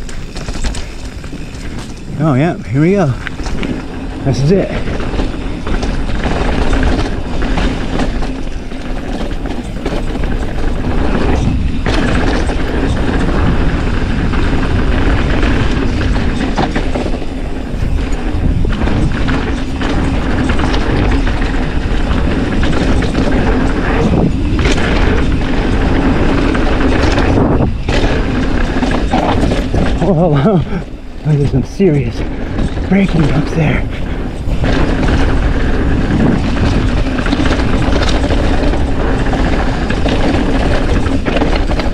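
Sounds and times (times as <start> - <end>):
bike rattling over bumps: 0.0 - 41.9
rush of tyres and wind: 0.0 - 41.9.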